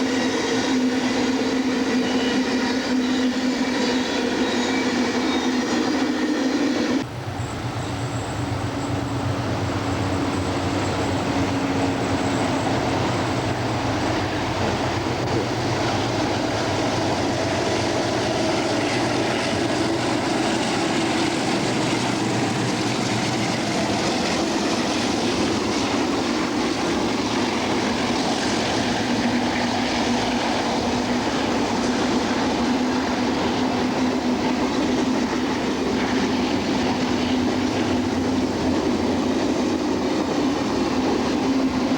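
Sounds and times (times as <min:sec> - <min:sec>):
locomotive engine drone: 0:00.0 - 0:41.9
wheel and rail noise: 0:00.0 - 0:41.9.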